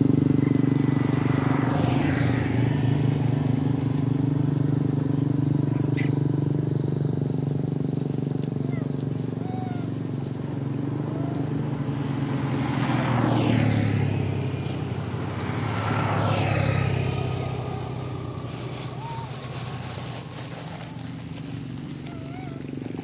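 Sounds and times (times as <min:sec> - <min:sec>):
steady low engine hum: 0:00.0 - 0:23.0
vehicles passing by: 0:00.0 - 0:23.0.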